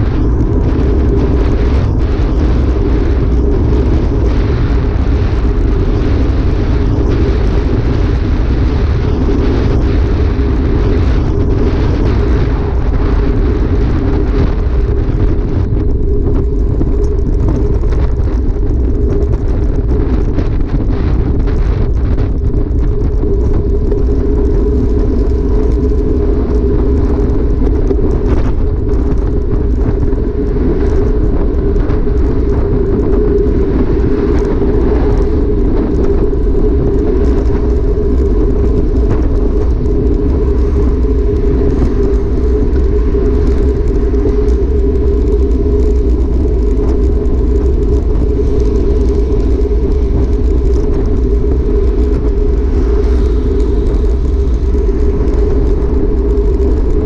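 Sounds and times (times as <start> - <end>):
tyre noise on asphalt: 0.0 - 57.0
wind rumble on microphone: 0.0 - 57.0.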